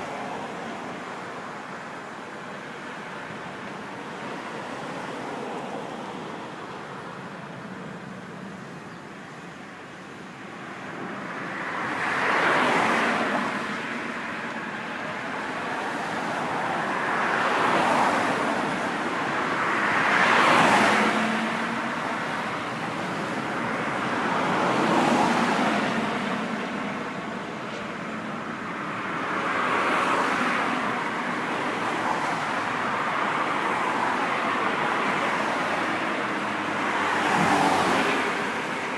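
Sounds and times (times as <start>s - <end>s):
steady traffic hum: 0.0s - 38.9s
vehicles passing: 0.0s - 38.9s.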